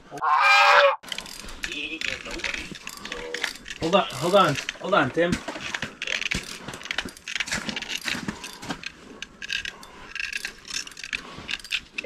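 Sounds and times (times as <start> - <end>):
fishing reel clicking and rasping: 1.0 - 4.8, 5.7 - 12.0.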